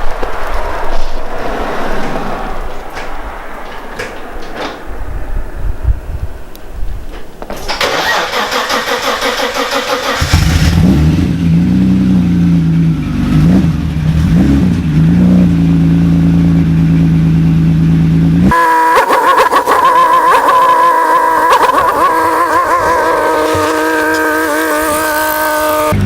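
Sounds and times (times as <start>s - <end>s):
car engine starting and revving: 0.0s - 26.0s.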